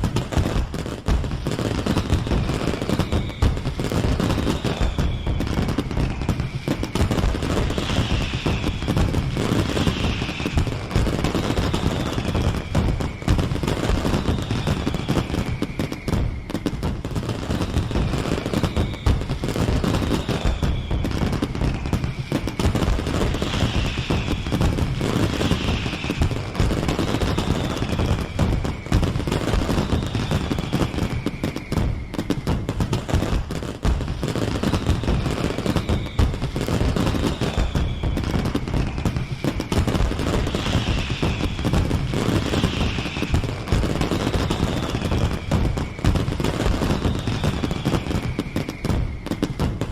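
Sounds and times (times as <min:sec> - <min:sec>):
falling firework whistle: 0:00.0 - 0:49.9
fireworks bangs and crackling: 0:00.0 - 0:49.9.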